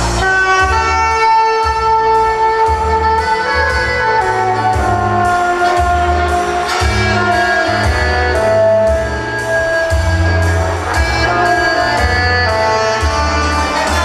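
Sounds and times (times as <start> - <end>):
backing track with bass and beat: 0.0 - 14.0
saxophone melody: 0.0 - 14.0.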